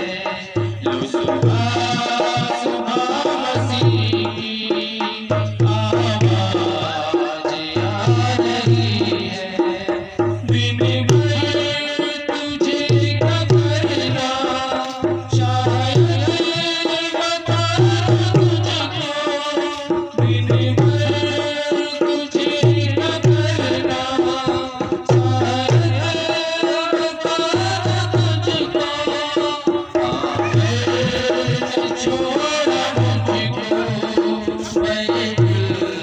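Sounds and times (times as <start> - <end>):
devotional song melody: 0.0 - 36.0
hand drum rhythm: 0.0 - 36.0.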